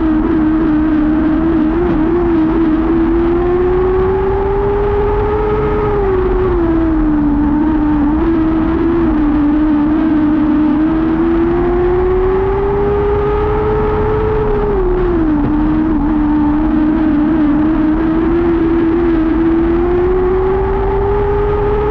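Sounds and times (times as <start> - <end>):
race car engine at high revs: 0.0 - 21.9.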